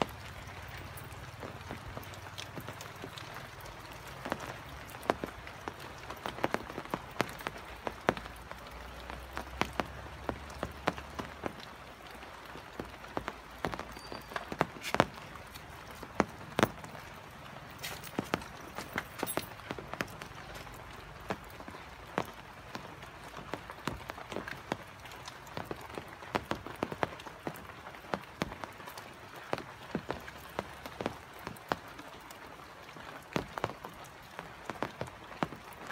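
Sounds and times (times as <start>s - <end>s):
raindrops tapping: 0.0s - 35.9s
soft rain patter: 0.0s - 35.9s.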